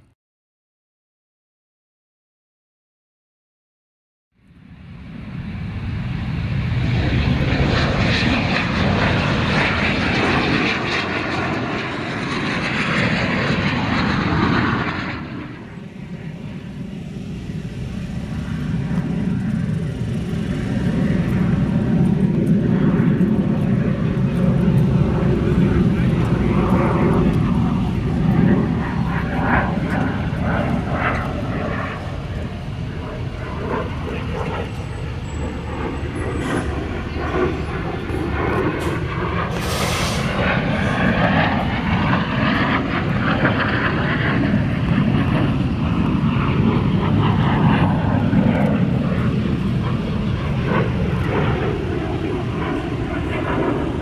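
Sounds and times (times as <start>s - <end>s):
jet engine rushing: 4.6s - 54.0s.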